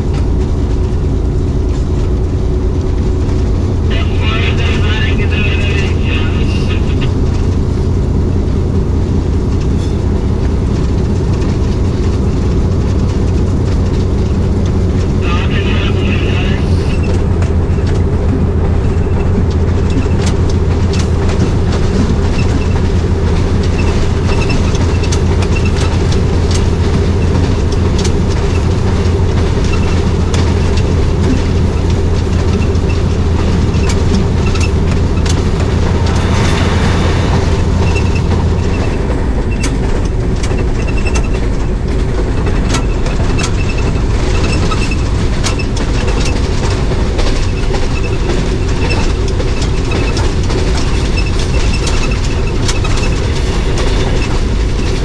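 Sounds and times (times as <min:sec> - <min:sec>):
low train rumble: 0:00.0 - 0:55.0
train wheels clicking over rail joints: 0:04.6 - 0:55.0.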